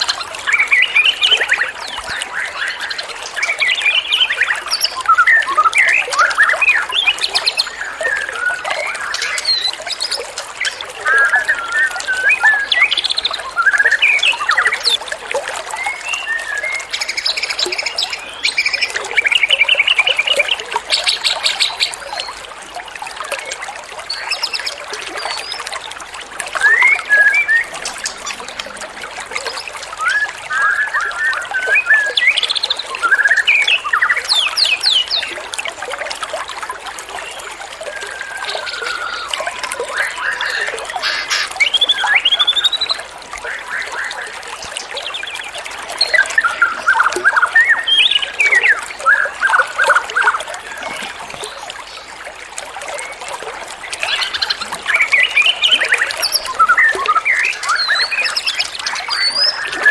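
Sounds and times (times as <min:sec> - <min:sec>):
songbirds singing: 0:00.0 - 0:22.4, 0:23.3 - 0:35.5, 0:37.1 - 0:59.9
trickle of running water: 0:00.0 - 0:59.9.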